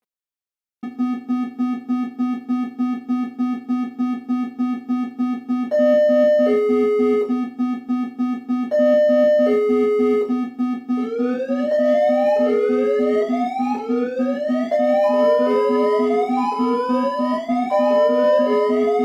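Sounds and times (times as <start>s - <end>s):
low pulsing buzzing alarm tone: 0.9s - 19.0s.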